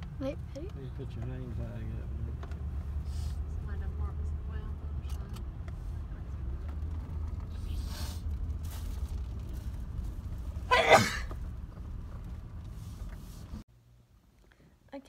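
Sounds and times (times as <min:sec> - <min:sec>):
car driving low rumble: 0:00.0 - 0:14.6.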